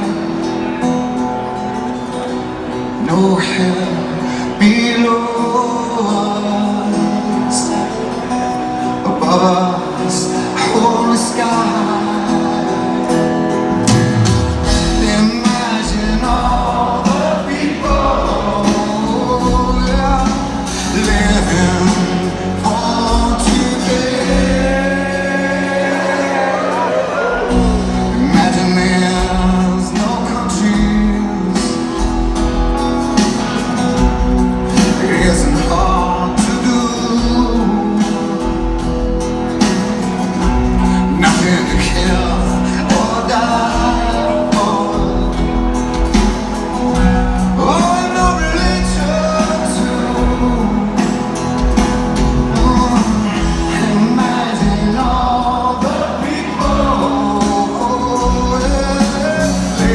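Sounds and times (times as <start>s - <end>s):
live rock band ballad: 0.0s - 59.9s
man singing: 3.0s - 32.5s, 33.2s - 59.9s.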